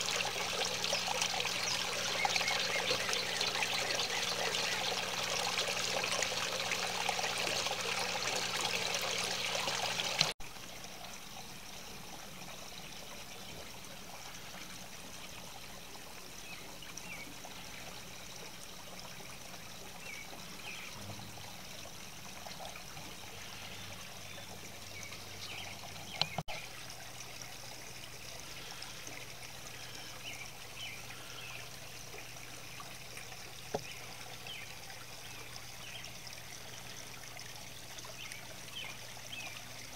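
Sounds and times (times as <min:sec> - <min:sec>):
fountain water trickling: 0:00.0 - 0:39.9.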